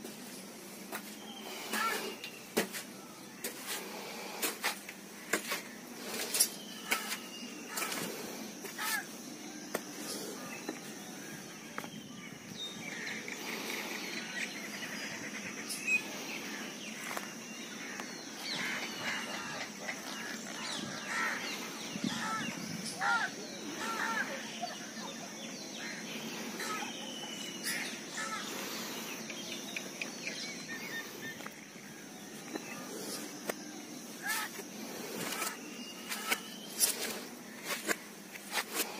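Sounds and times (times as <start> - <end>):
steady high-pitched hiss: 0.0 - 38.9
birds chirping and calling: 0.3 - 38.9.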